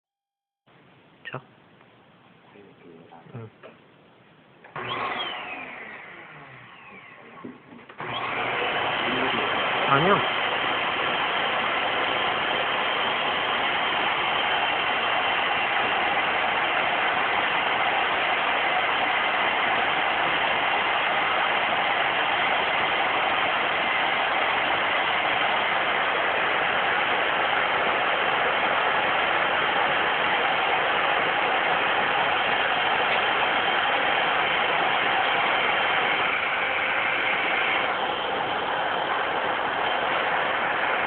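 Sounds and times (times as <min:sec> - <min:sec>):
vacuum cleaner running: 0:04.6 - 0:41.0.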